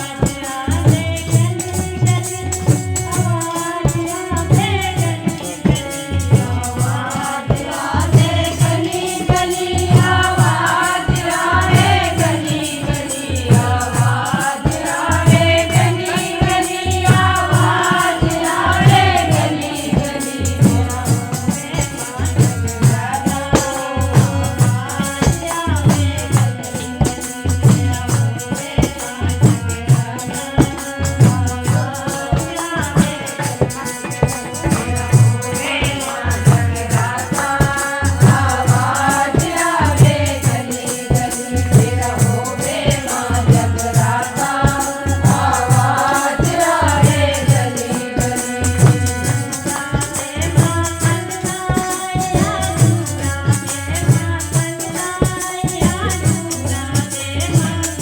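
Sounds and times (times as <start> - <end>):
devotional song sung: 0.0 - 58.0
steady drum beat: 0.0 - 58.0.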